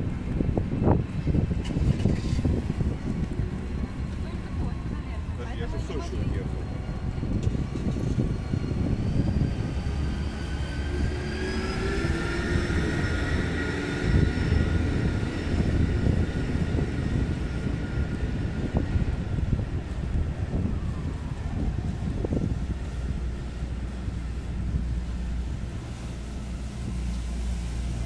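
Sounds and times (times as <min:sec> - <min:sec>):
street traffic: 0:00.0 - 0:28.0
wind on microphone: 0:00.0 - 0:28.0.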